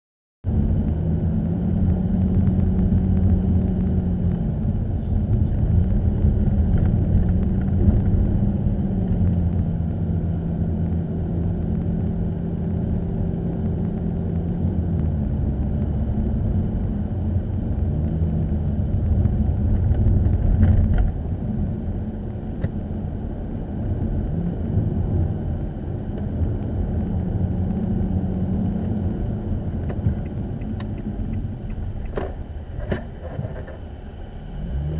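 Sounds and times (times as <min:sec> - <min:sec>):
car engine: 0:00.4 - 0:34.9
road rumble: 0:00.4 - 0:34.9.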